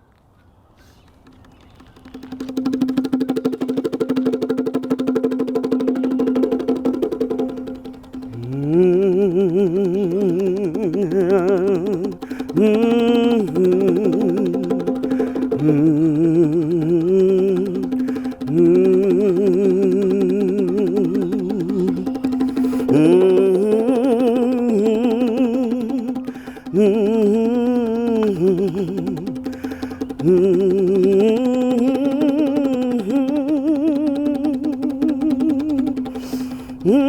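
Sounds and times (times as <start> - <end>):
wordless melody with wide vibrato: 2.5 - 37.0
steady drone: 4.8 - 37.0.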